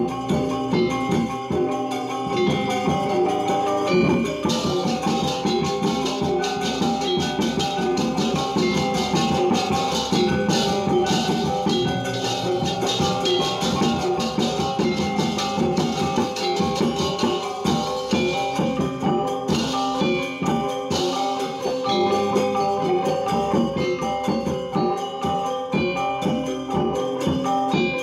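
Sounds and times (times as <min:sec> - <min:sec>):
drumming: 0:00.0 - 0:28.0
gamelan metallophones and gongs: 0:00.0 - 0:28.0.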